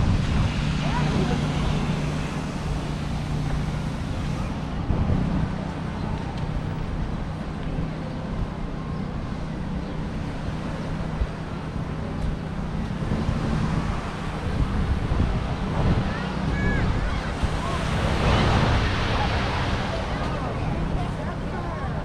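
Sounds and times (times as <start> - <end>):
low engine hum: 0.0 - 22.0
street traffic: 0.0 - 22.0
wind rumbling on microphone: 0.0 - 22.0.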